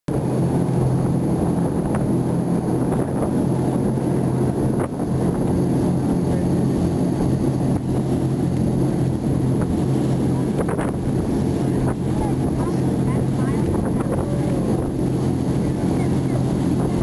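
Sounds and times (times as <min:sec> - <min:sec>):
boat engine droning: 0:00.1 - 0:17.0
wind on microphone: 0:00.1 - 0:17.0.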